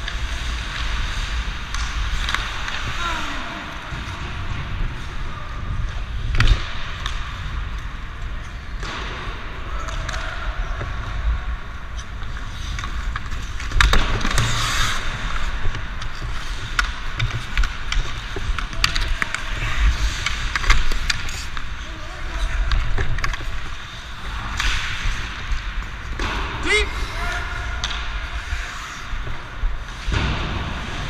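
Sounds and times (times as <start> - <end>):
hockey sticks clacking on puck: 0.0 - 4.6, 5.8 - 31.0
skates scraping ice: 0.0 - 31.0.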